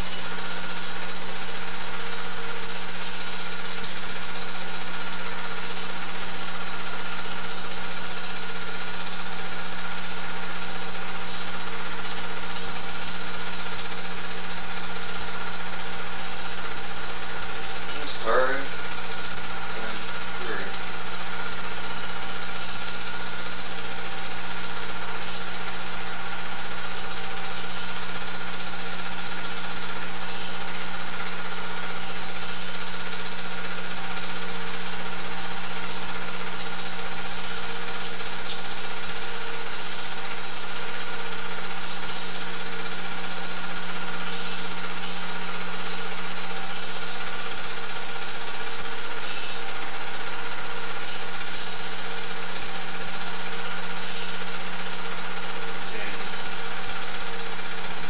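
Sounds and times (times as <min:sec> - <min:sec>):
film projector running: 0:00.0 - 0:58.0.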